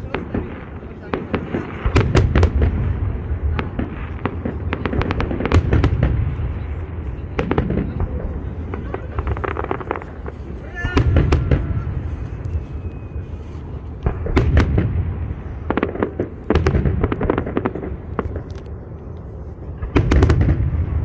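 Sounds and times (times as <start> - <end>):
firework shells booming: 0.0 - 12.4, 14.0 - 18.6, 19.8 - 21.0
fireworks crackling: 0.0 - 21.0.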